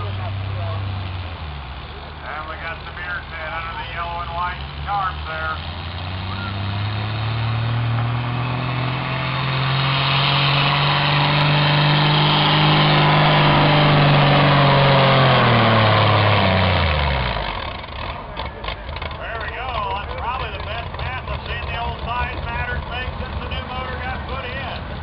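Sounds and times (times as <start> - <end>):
tractor engine droning under load: 0.0 - 25.0.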